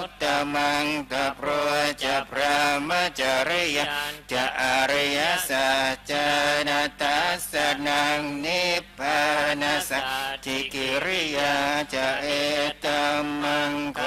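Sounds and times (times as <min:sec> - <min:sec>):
chanting: 0:00.0 - 0:14.0.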